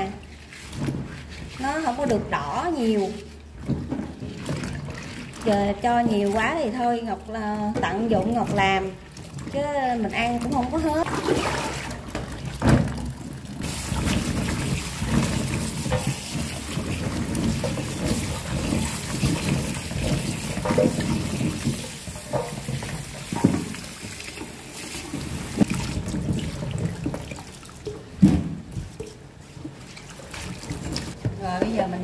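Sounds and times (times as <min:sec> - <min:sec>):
water splashing and sloshing: 0:00.0 - 0:32.0
tap running into basin: 0:00.8 - 0:29.2.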